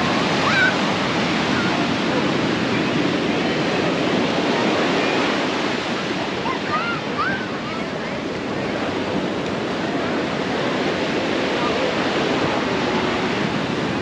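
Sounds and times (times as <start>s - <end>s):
faint crowd voices: 0.0s - 14.0s
ocean surf breaking on sand: 0.0s - 14.0s
wind buffeting microphone: 0.0s - 14.0s.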